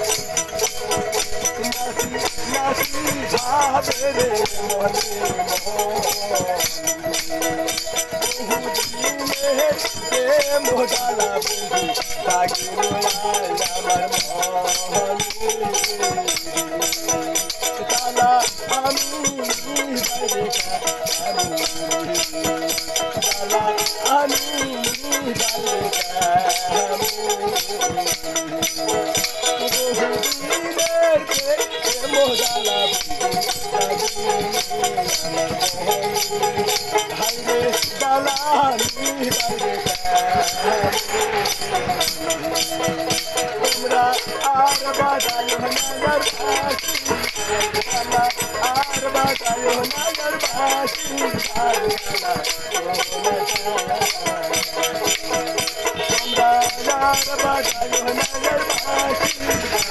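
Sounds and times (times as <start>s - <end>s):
plucked lute melody: 0.0s - 59.9s
small hand cymbals: 0.0s - 59.9s
wooden clappers beat: 0.0s - 59.9s.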